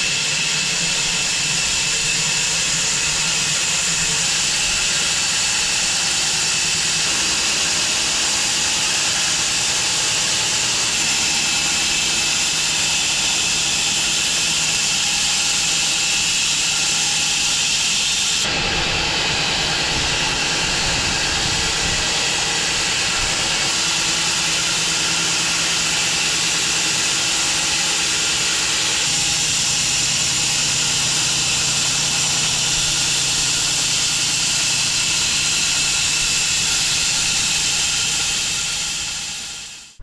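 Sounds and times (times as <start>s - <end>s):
sawmill engine: 0.0s - 40.0s
saw blade cutting log: 1.7s - 39.7s.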